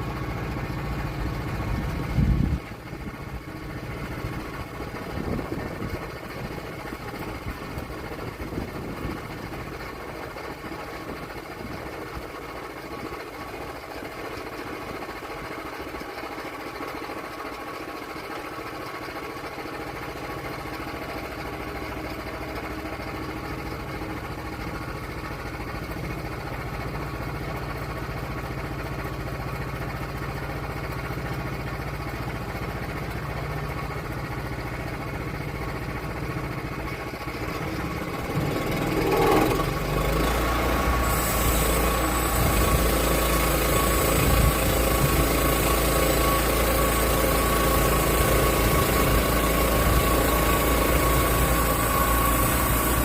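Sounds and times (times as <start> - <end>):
gasoline engine running: 0.0 - 53.0.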